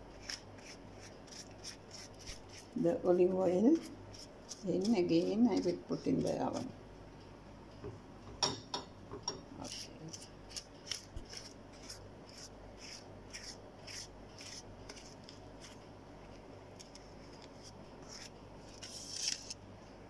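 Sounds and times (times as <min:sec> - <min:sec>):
pastry brush swishing: 0:00.1 - 0:06.7, 0:09.6 - 0:19.3.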